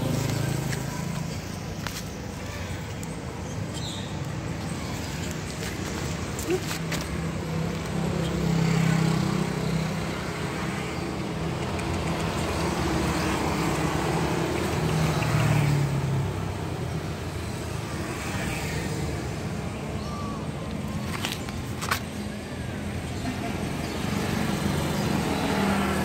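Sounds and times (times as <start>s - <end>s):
vehicles passing on road: 0.0s - 26.0s.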